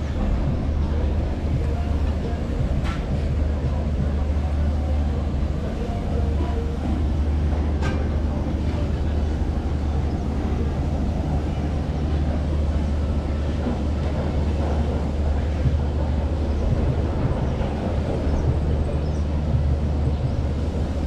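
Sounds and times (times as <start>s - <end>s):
lift machinery humming: 0.0s - 21.0s.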